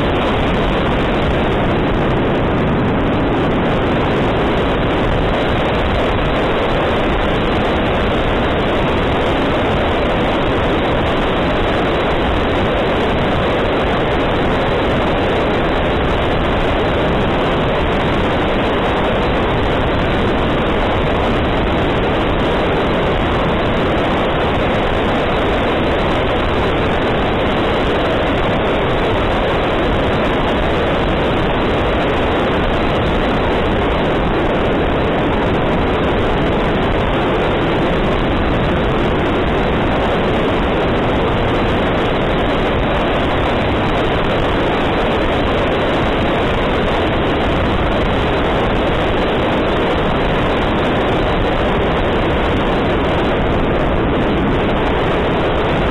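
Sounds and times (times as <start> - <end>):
electric ducted fan whir: 0.0 - 55.9
rush of wind: 0.0 - 55.9.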